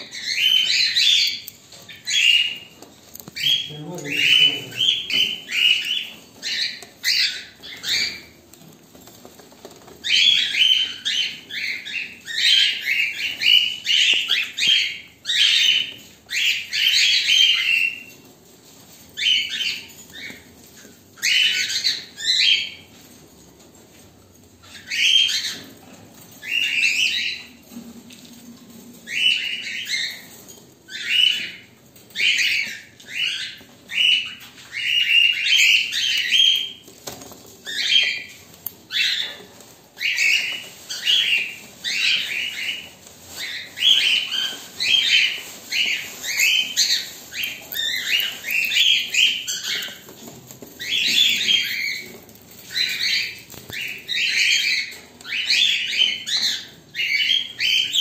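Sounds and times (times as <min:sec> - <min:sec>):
cockatiels chirping: 0:00.0 - 0:08.7, 0:09.3 - 0:23.0, 0:24.6 - 0:27.7, 0:29.0 - 0:58.0.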